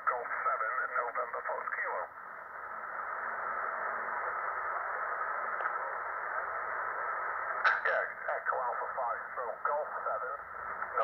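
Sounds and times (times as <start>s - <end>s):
shortwave radio hissing: 0.0s - 11.0s.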